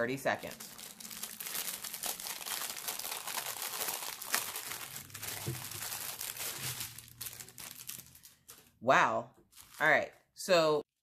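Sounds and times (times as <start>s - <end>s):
plastic bag crinkling: 0.0s - 8.8s, 9.5s - 9.9s.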